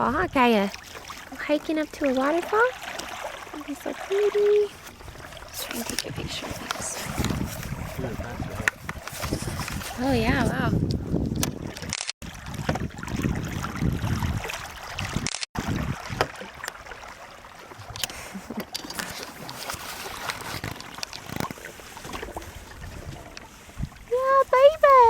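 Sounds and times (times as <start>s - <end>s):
water noise: 0.0s - 25.0s
wind: 0.0s - 25.0s.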